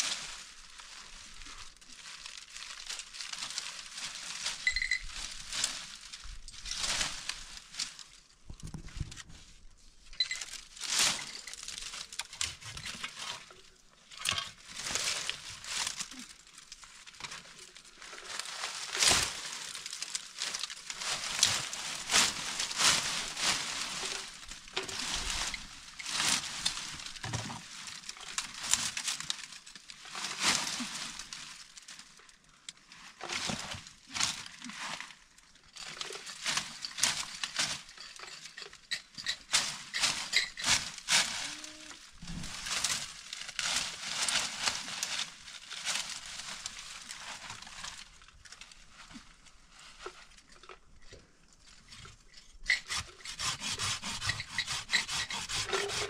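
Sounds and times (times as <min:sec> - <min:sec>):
rustling and crinkling: 0:00.0 - 0:56.0.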